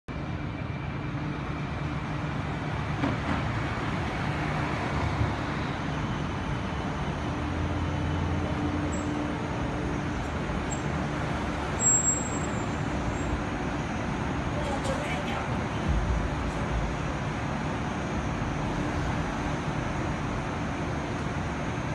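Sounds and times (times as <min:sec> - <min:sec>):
street traffic: 0:00.1 - 0:21.9
streetcar electric drive humming: 0:00.1 - 0:21.9.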